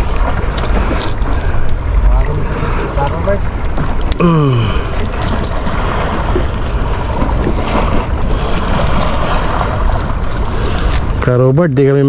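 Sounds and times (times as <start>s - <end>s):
sea wash: 0.0s - 12.0s
wind buffeting microphone: 0.0s - 12.0s.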